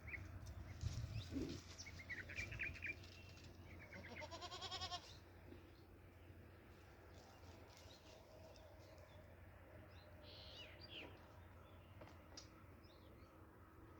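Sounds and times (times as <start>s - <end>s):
faint birds chirping: 0.0s - 13.9s.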